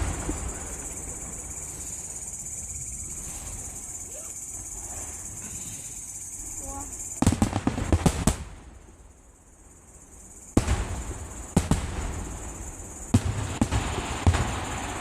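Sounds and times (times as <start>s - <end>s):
fireworks booming: 0.0s - 5.8s, 6.8s - 9.1s, 10.5s - 15.0s.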